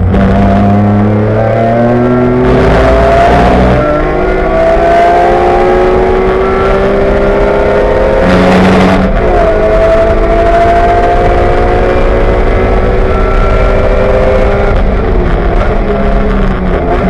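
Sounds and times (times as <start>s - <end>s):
race car engine at full throttle: 0.0s - 17.0s
wind and road noise: 0.0s - 17.0s.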